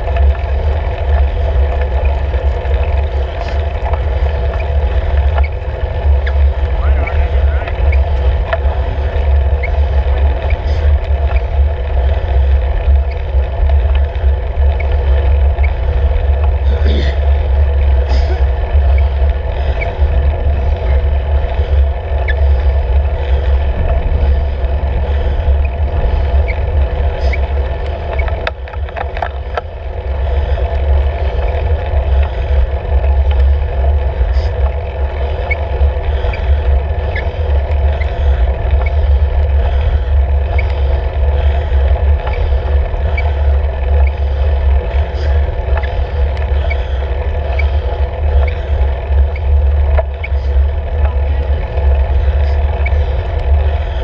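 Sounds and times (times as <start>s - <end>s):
bicycle tyres rolling on asphalt: 0.0s - 54.0s
wind rumble on microphone: 0.0s - 54.0s.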